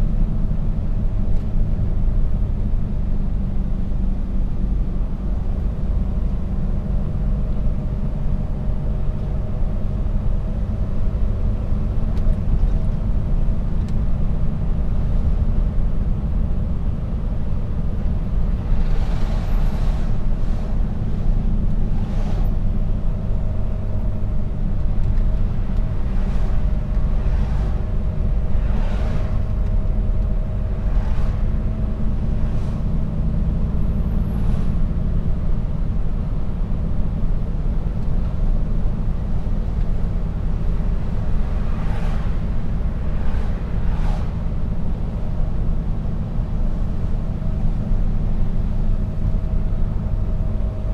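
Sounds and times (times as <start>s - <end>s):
truck engine and road drone: 0.0s - 50.9s.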